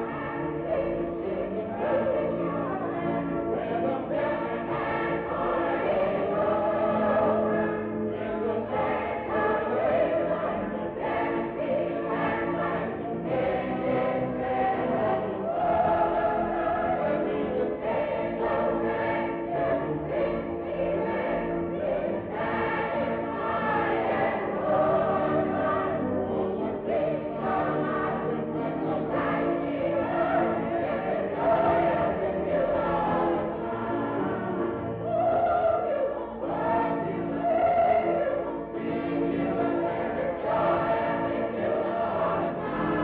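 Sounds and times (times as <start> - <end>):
choir singing long chords: 0.0 - 43.0.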